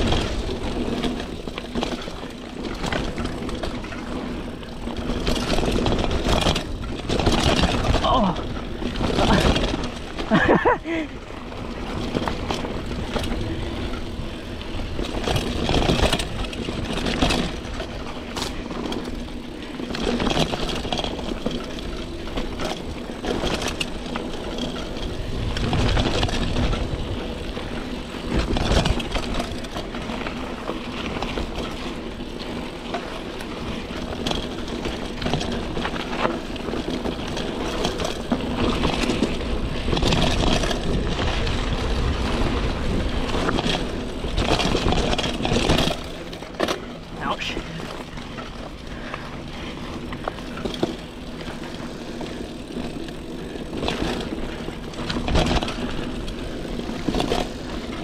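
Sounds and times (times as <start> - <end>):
bike knocking and rattling: 0.0 - 58.0
bike tyres rushing over dirt: 0.0 - 58.0.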